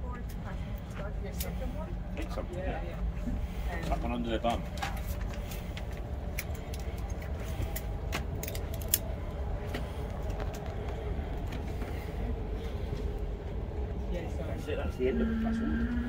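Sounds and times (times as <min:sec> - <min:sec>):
aircraft cabin air hum: 0:00.0 - 0:16.0.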